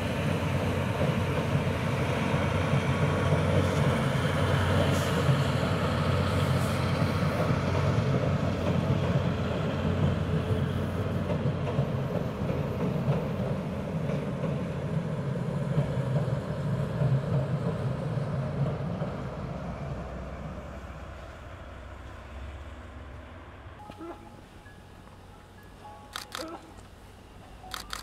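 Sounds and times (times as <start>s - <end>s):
train wheels rumbling over bridge: 0.0s - 28.0s.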